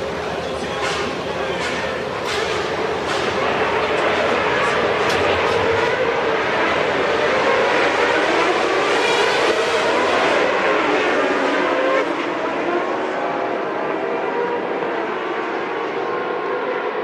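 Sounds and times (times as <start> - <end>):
racing car engines at high revs: 0.0 - 17.0.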